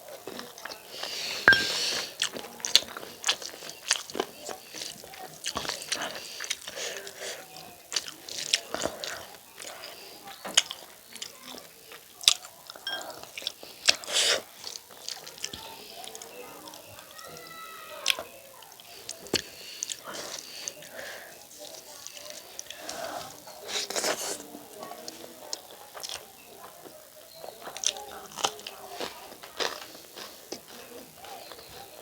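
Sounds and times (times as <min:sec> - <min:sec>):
wet chewing: 0:00.1 - 0:17.1, 0:18.0 - 0:32.0.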